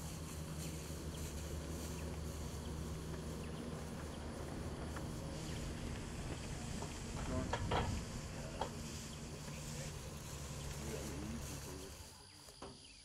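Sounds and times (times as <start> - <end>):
low hum: 0.0 - 12.2
high insect-like hiss: 0.0 - 13.0.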